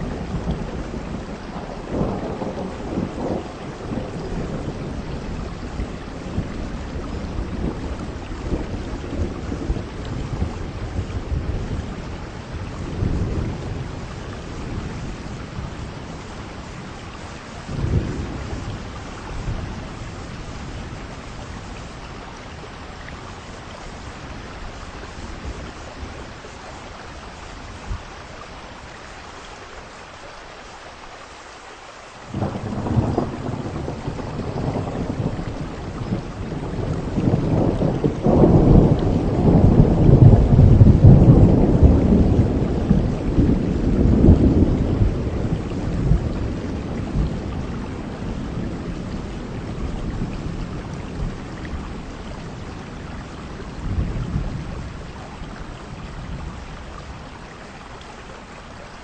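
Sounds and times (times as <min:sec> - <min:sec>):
thunder rumbling: 0:00.0 - 0:29.1, 0:32.3 - 0:58.0
heavy rain: 0:00.0 - 0:59.0.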